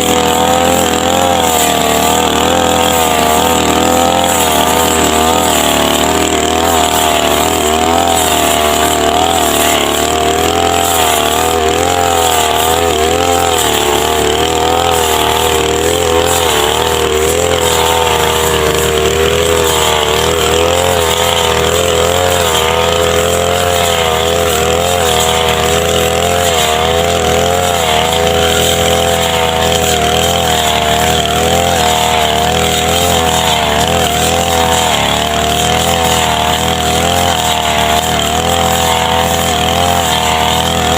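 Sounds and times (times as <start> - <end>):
grass cutter engine running: 0.0 - 40.9.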